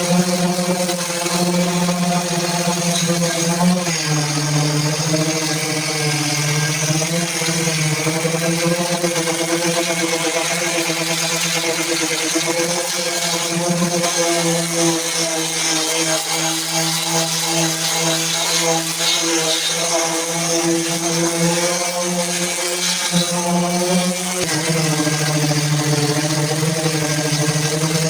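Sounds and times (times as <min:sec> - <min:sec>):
power sander on metal: 0:00.0 - 0:28.0.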